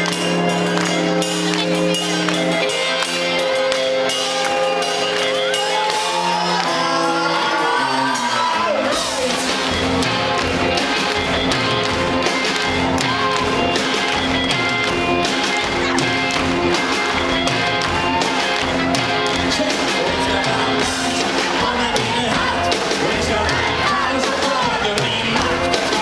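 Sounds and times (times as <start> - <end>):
rock band playing loudly: 0.0 - 26.0
crowd shouting and whooping: 1.6 - 26.0.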